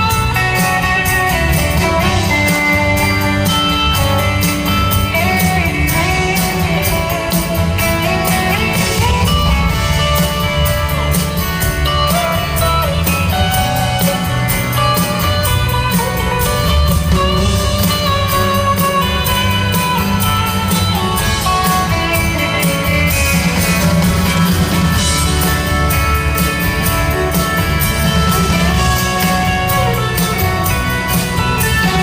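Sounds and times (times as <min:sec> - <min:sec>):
electric guitar: 0:00.0 - 0:32.0
live rock band instrumental: 0:00.0 - 0:32.0.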